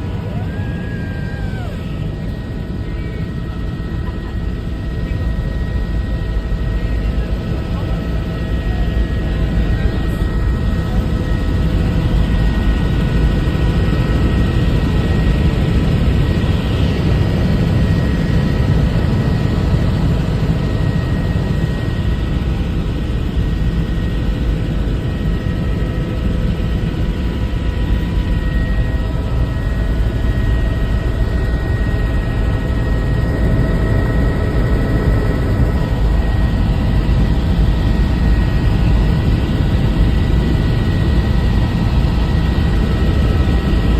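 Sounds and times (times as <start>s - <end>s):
helicopter rotor and engine: 0.0s - 43.9s
high turbine whine: 0.0s - 43.9s.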